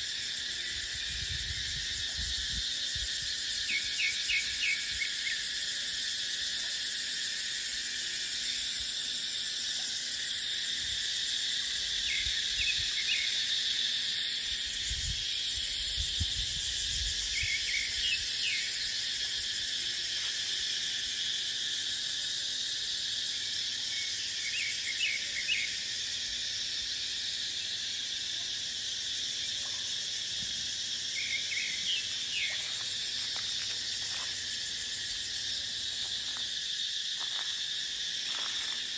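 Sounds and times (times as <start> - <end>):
cicadas droning: 0.0 - 38.9
high insect chirps: 0.0 - 38.9.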